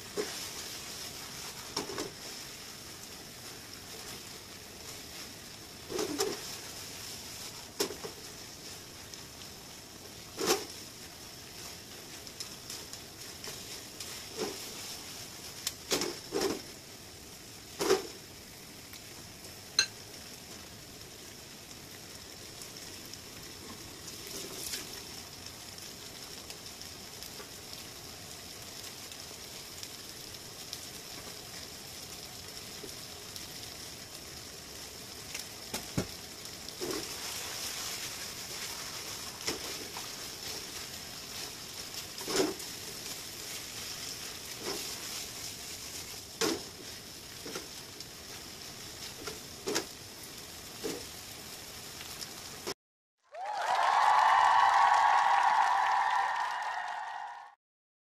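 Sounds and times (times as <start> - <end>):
food sizzling in frying pan: 0.0 - 52.8.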